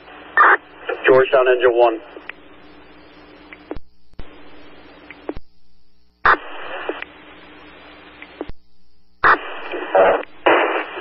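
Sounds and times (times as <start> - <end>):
faint steady hum: 0.0 - 11.0
radio static hiss: 0.0 - 11.0.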